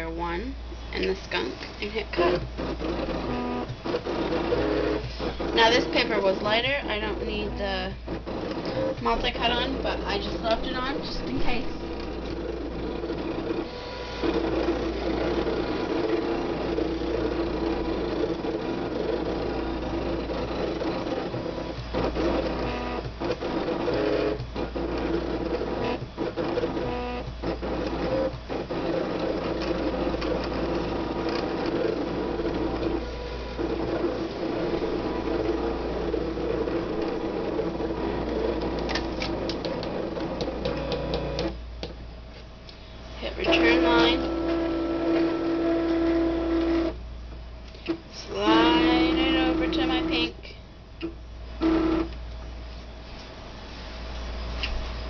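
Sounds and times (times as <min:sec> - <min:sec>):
cutting machine motors whirring: 0:00.9 - 0:41.6, 0:43.3 - 0:47.0, 0:48.2 - 0:50.4.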